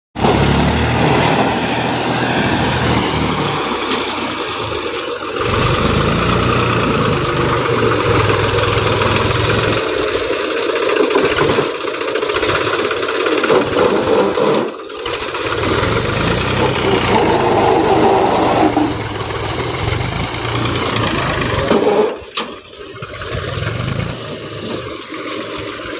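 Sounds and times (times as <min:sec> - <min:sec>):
tractor diesel engine running: 0:00.2 - 0:25.9.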